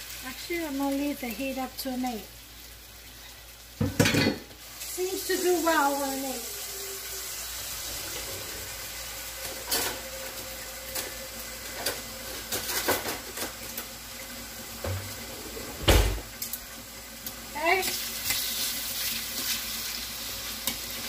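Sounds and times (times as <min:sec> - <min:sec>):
beef sizzling in a skillet: 0:00.0 - 0:21.0.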